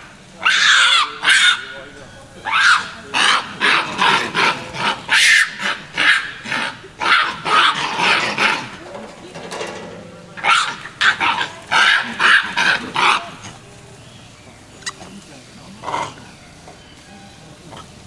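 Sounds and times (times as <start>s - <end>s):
monkeys screeching: 0.0s - 8.8s, 10.4s - 13.6s, 14.7s - 18.0s.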